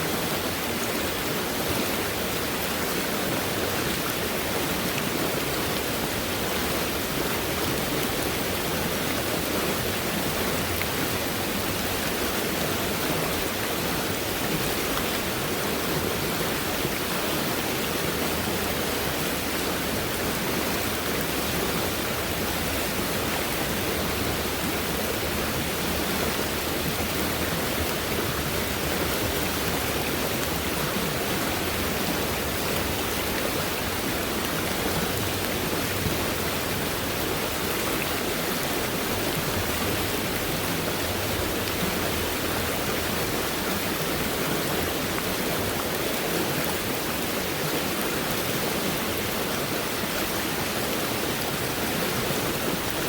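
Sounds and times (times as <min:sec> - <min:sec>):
stream water rushing: 0:00.0 - 0:53.0.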